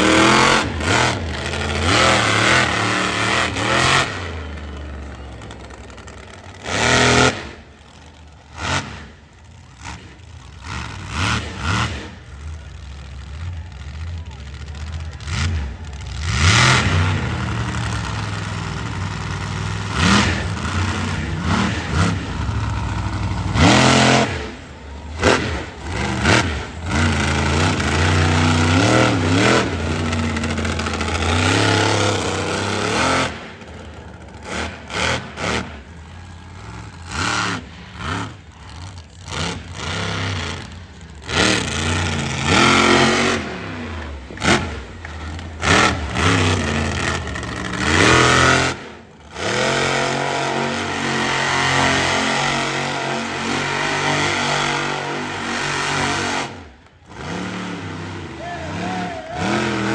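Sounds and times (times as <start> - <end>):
engine bangs: 0.0 - 59.9
truck engine revving: 0.0 - 59.9.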